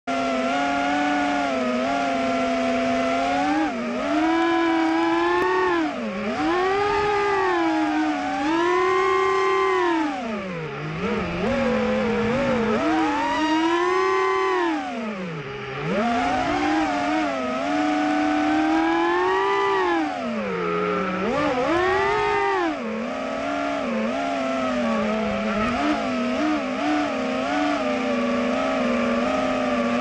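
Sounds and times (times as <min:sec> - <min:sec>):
drone motors and propellers whining: 0:00.0 - 0:30.0.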